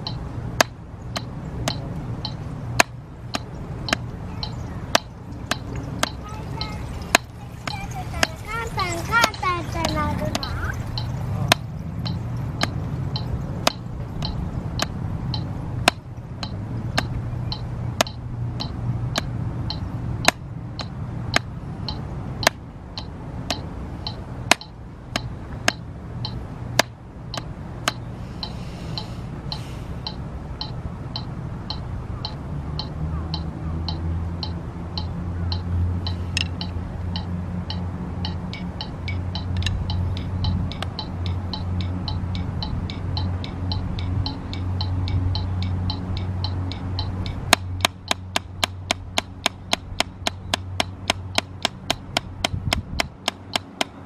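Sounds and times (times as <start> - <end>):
drumsticks striking a practice pad: 0.0 - 54.0
metronome clicking: 0.0 - 54.0.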